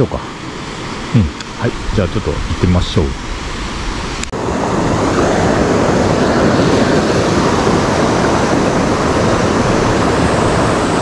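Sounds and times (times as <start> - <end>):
fast river water rushing: 0.0 - 11.0.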